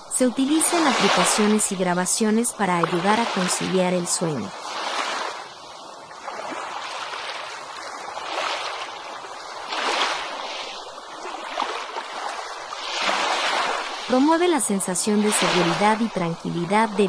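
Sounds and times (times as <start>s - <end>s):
ocean waves washing onto beach: 0.0s - 17.0s.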